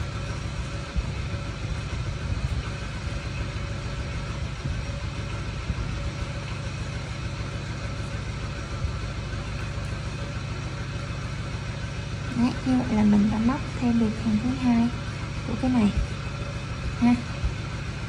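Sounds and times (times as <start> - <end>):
faint hum: 0.0 - 18.0
low rumble: 0.0 - 18.0.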